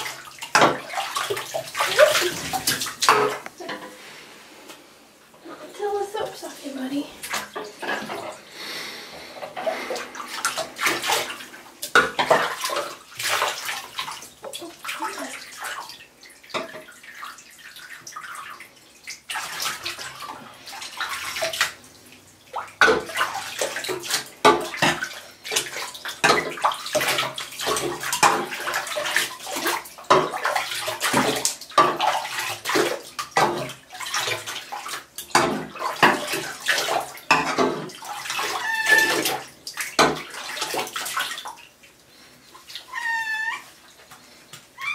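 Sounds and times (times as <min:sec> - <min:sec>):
bathwater splashing: 0:00.0 - 0:04.5, 0:05.6 - 0:44.9.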